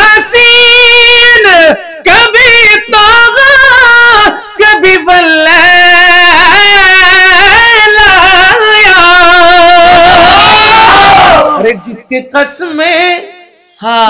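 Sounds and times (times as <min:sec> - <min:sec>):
man singing in high register: 0:00.0 - 0:14.0.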